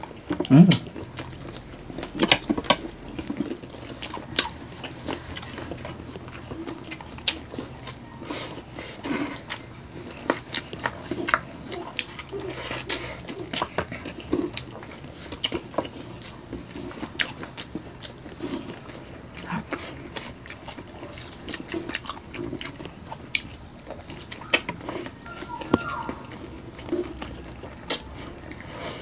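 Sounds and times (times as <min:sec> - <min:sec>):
person chewing and gnawing: 0:00.0 - 0:29.0.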